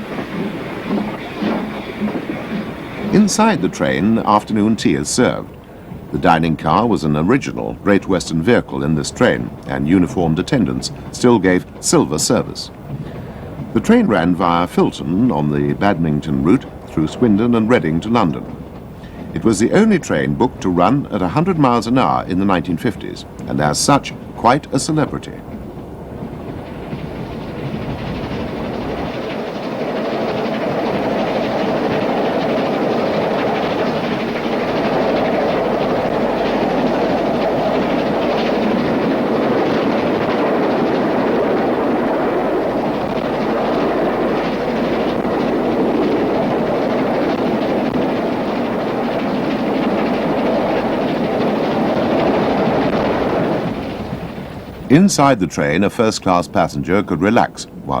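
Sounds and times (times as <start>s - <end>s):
steam train rushing rumble: 0.0s - 58.0s.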